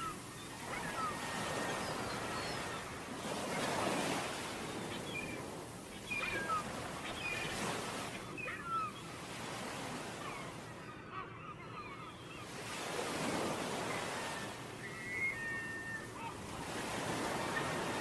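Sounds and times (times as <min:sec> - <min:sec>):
ocean waves on a beach: 0:00.0 - 0:18.0.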